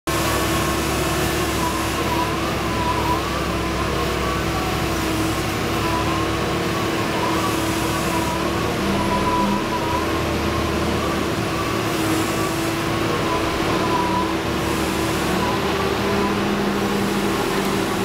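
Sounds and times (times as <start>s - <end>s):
heavy machinery engine drone: 0.1s - 18.0s.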